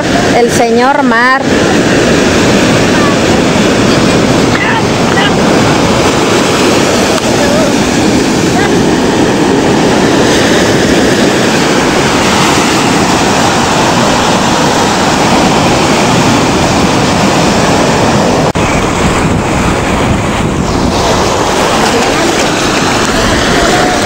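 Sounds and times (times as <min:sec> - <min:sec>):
sea surf washing on beach: 0:00.0 - 0:24.0
wind buffeting microphone: 0:00.0 - 0:24.0.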